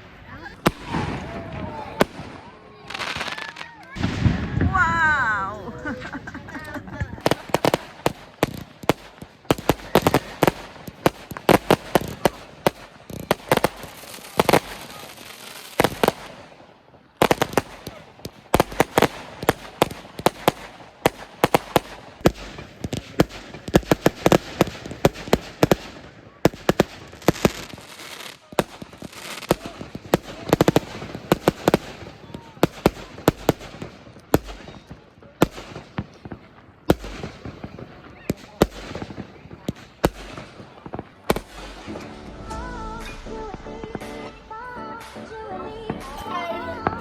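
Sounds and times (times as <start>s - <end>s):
fireworks exploding: 0.0s - 47.0s.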